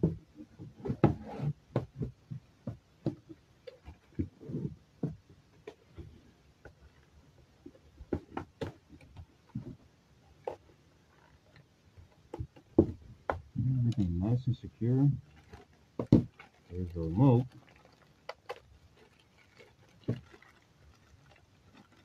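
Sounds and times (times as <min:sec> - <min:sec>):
cardboard and plastic being handled: 0:00.0 - 0:22.0.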